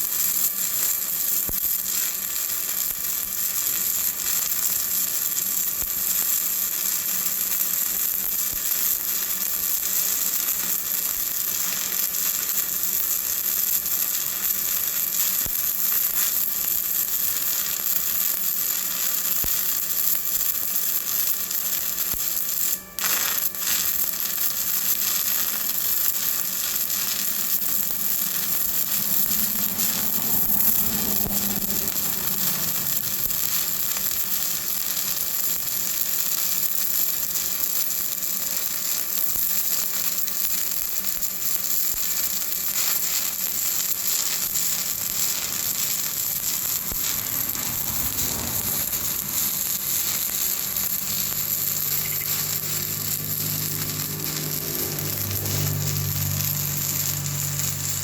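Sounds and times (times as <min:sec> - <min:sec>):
welding arc crackling sizzle: 0:00.0 - 0:58.0.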